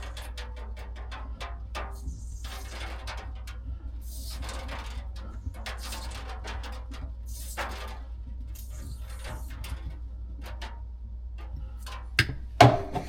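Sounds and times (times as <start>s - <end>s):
rustles and knocks of handling: 0.0s - 13.0s
steady low hum: 0.0s - 13.0s.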